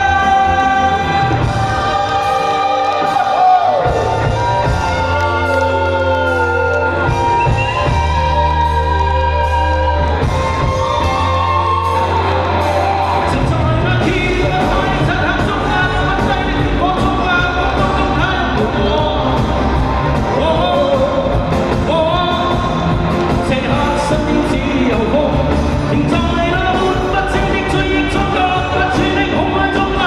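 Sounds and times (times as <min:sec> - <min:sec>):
pop song with band: 0:00.0 - 0:30.0.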